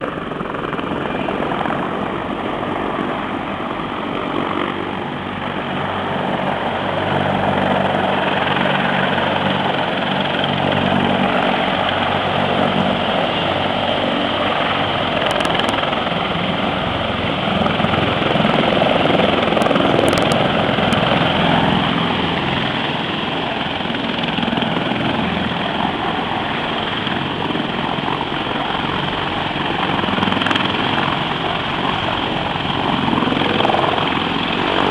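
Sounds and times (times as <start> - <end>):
helicopter rotors and engines: 0.0 - 34.9.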